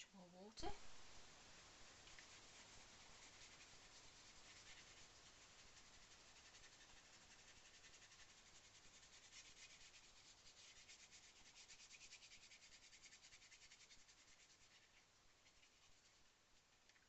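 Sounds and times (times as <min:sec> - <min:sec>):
wet brush rubbing over card: 0:01.8 - 0:16.8.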